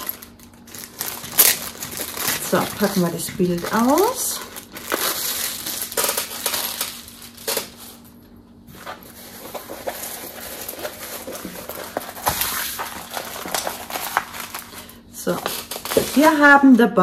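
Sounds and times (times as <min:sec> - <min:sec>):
paper and plastic crinkling: 0:00.0 - 0:16.8.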